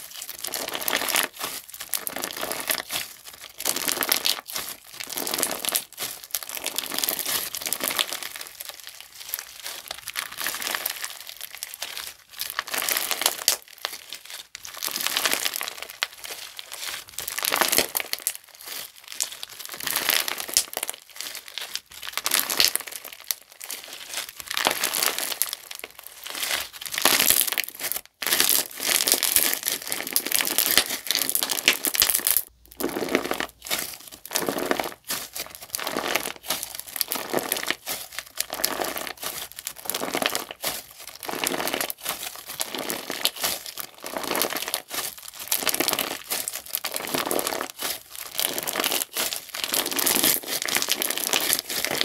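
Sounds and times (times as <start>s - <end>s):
crunchy slime crackling: 0.0s - 52.0s.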